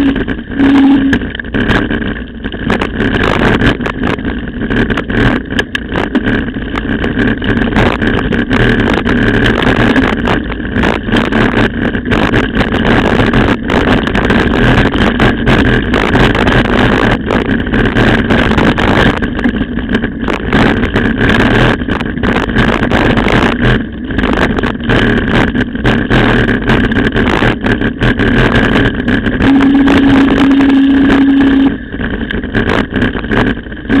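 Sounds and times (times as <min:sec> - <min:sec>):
bike tyres on gravel: 0:00.0 - 0:34.0
wind on microphone: 0:00.0 - 0:34.0.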